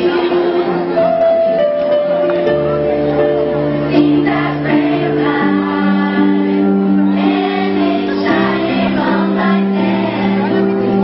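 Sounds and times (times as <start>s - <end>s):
girls' choir singing: 0.0s - 1.3s, 2.6s - 11.0s
electric keyboard chords: 0.0s - 11.0s.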